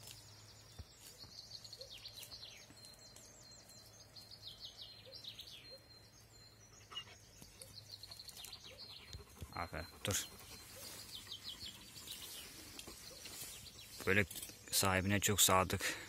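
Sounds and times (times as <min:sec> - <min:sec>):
faint songbirds singing: 0:00.0 - 0:16.0.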